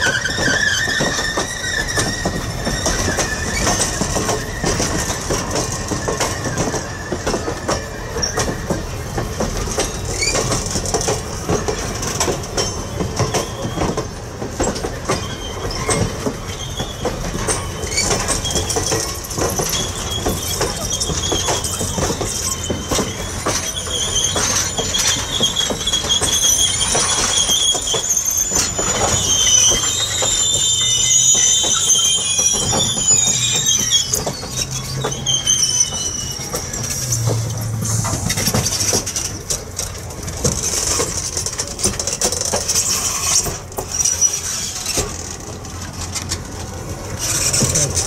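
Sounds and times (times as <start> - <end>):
rumble of wheels on track: 0.0 - 48.0
train wheels squealing on rails: 0.0 - 48.0.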